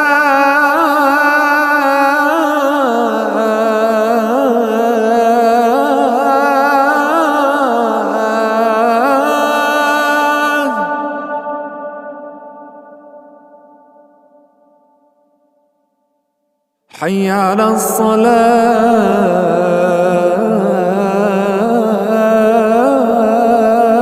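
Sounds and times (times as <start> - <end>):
person chanting call to prayer: 0.0 - 13.2, 16.9 - 24.0.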